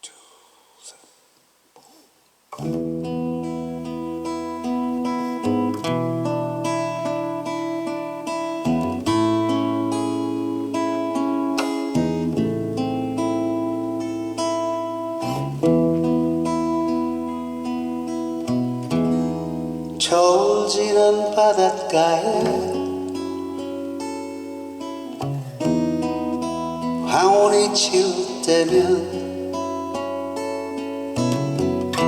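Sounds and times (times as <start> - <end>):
acoustic guitar picking chords: 2.5 - 32.0.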